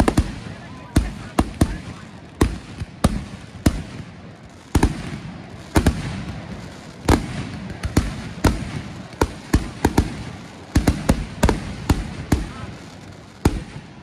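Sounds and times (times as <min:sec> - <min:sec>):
fireworks bursting with sharp bangs: 0:00.0 - 0:14.0.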